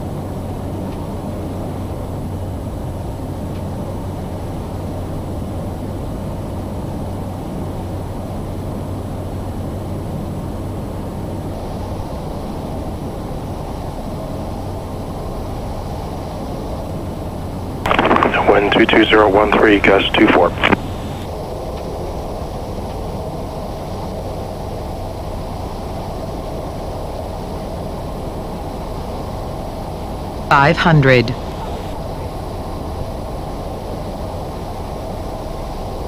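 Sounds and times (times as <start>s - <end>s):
turboprop engine drone: 0.0s - 36.0s.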